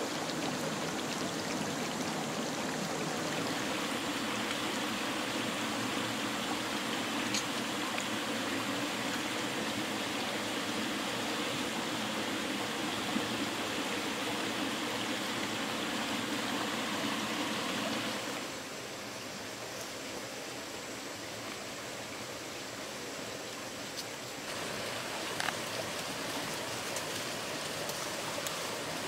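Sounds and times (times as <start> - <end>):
stream water running: 0.0 - 29.0.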